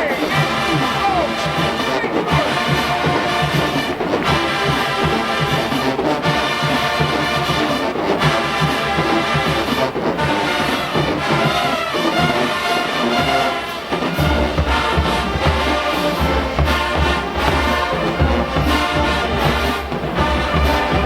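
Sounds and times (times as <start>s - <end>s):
low brass bass line: 0.0s - 21.0s
marching band playing: 0.0s - 21.0s
steady drum beat: 0.0s - 21.0s.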